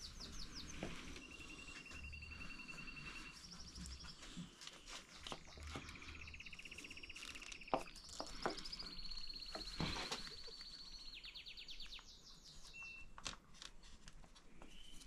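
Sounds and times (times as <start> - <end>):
songbirds trilling: 0.0 - 13.1.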